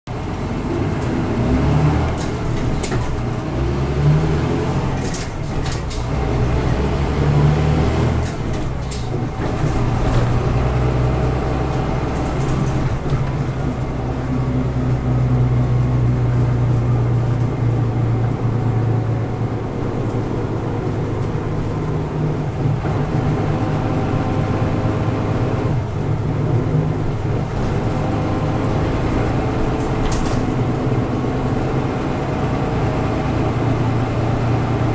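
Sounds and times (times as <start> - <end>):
bus diesel engine running: 0.1 - 34.9.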